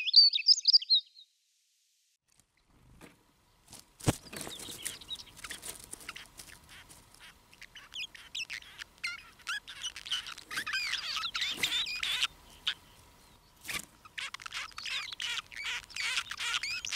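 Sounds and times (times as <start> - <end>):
bird singing chirping song: 0.0 - 1.4, 4.2 - 16.9.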